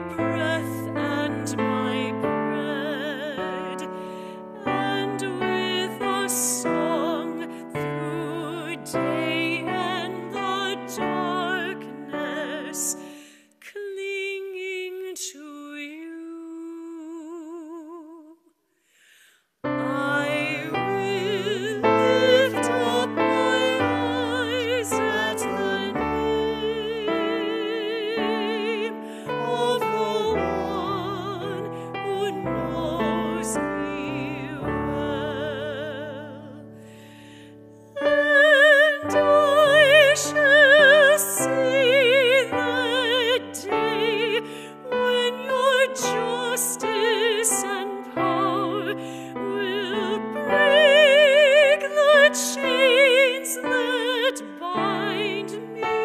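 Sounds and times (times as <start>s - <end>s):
piano: 0.0s - 17.9s, 18.9s - 56.0s
woman singing with vibrato: 0.0s - 18.5s, 19.6s - 36.6s, 38.0s - 56.0s.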